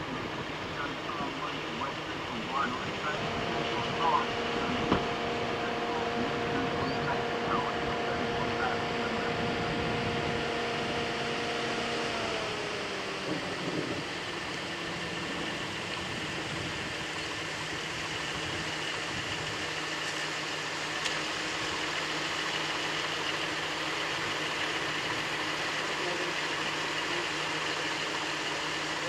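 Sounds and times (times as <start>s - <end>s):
air-conditioning blower hiss: 0.0s - 29.0s
engine idling hum: 0.0s - 29.0s.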